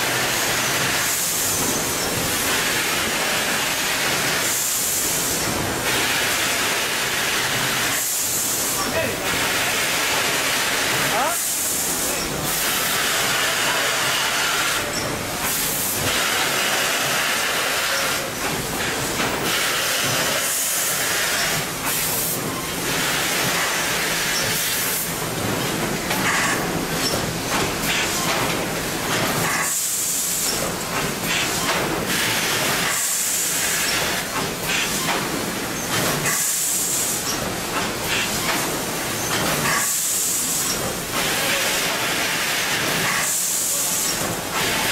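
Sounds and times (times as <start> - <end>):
packing machinery running: 0.0 - 44.9.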